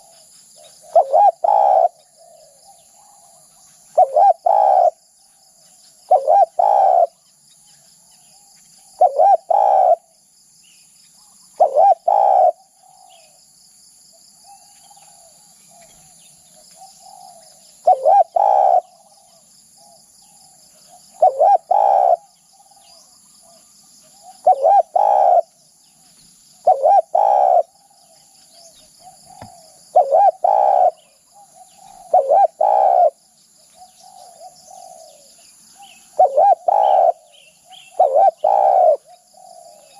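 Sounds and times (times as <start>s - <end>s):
dove cooing: 0.0s - 5.0s, 6.0s - 7.2s, 8.3s - 10.1s, 11.2s - 13.4s, 14.4s - 25.6s, 26.6s - 39.9s
faint bird chirps: 0.0s - 13.6s, 14.2s - 39.9s.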